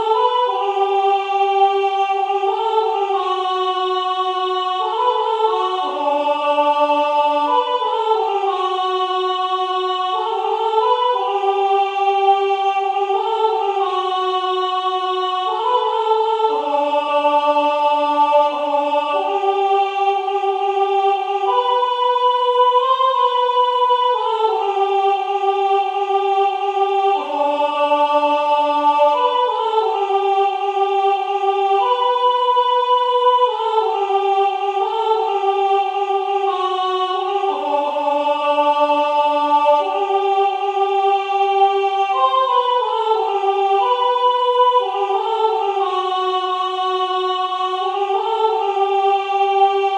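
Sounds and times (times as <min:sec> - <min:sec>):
synthesized choir voice chords: 0:00.0 - 0:49.9.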